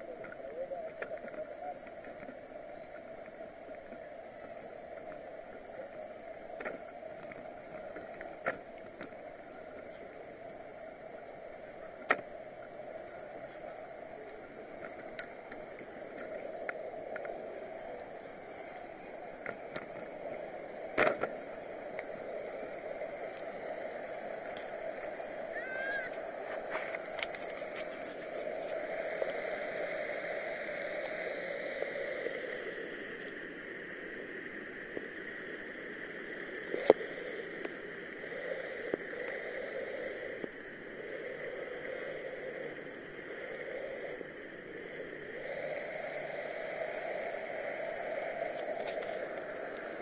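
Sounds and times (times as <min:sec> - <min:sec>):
wind and tyre noise: 0:00.0 - 0:50.0.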